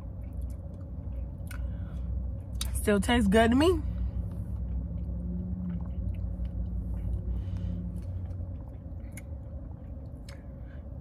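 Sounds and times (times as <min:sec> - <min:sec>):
low held hum: 0:00.0 - 0:11.0.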